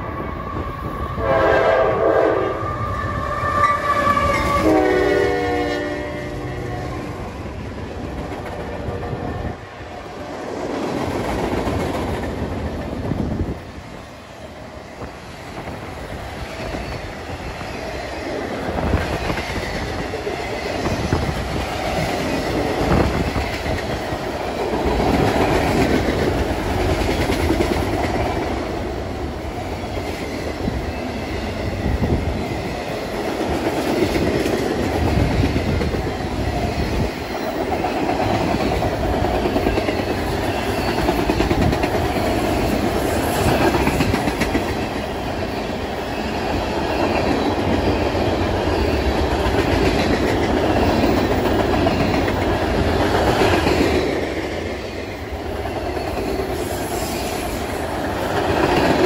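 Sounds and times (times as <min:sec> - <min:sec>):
train rumble: 0:00.0 - 0:59.0
train wheels clacking on rails: 0:10.2 - 0:13.8, 0:14.8 - 0:59.0.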